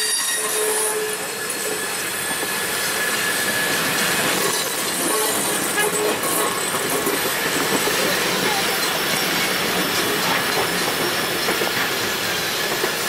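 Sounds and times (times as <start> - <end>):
clickety-clack over rail joints: 0.0 - 13.0
train wheels on rails: 0.0 - 13.0.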